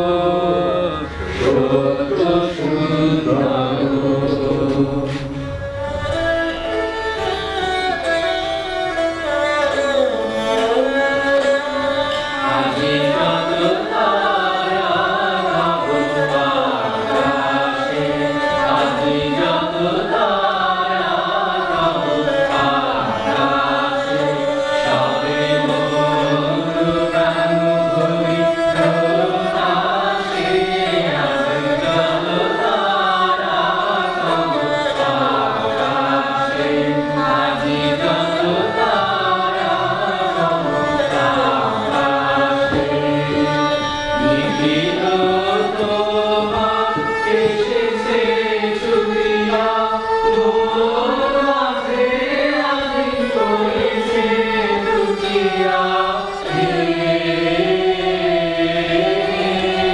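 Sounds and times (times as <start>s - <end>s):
bowed string instrument: 0.0s - 59.9s
group of people singing: 0.0s - 59.9s.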